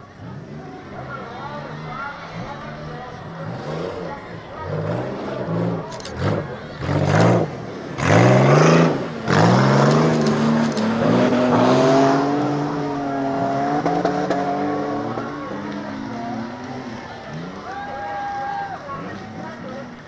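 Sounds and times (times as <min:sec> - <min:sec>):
race car engines revving: 0:00.0 - 0:20.0.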